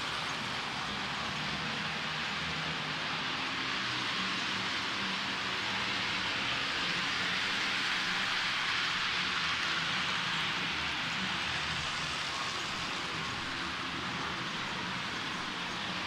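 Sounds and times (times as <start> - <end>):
model train wheels and motor hiss: 0.0 - 16.0.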